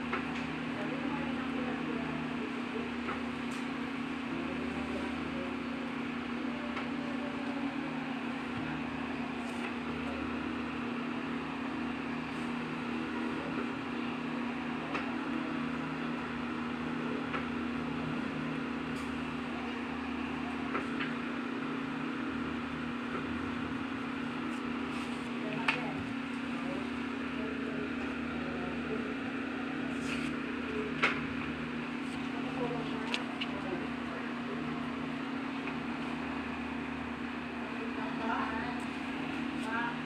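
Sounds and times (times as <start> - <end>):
mechanical hum: 0.0 - 40.0.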